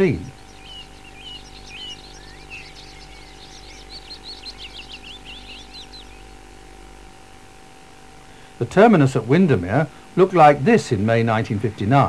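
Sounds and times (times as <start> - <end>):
faint steady hum: 0.0 - 12.0
small birds chirping: 0.0 - 12.0.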